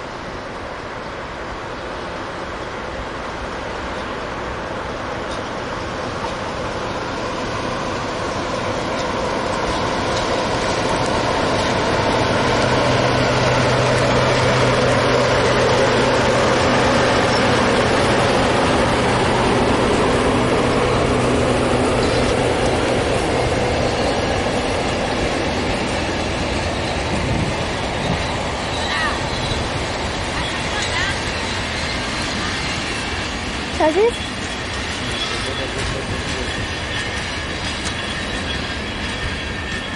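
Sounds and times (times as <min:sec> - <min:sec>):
diesel train engine hum: 0:00.0 - 0:39.9
wheel and rail noise: 0:00.0 - 0:39.9.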